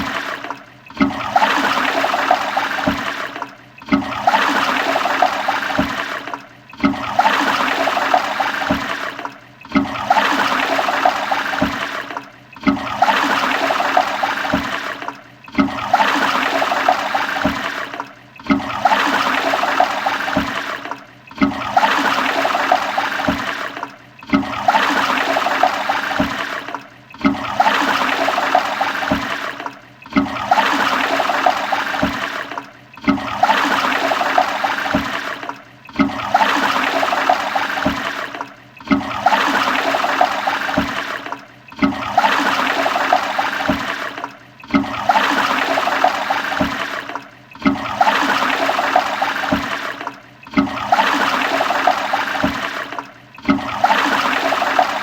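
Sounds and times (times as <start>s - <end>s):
toilet flushing: 0.0s - 55.0s.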